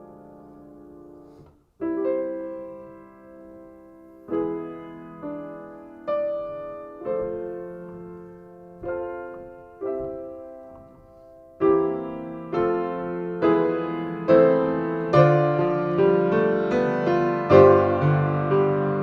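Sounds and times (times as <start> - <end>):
piano playing slow chords: 0.0 - 19.0.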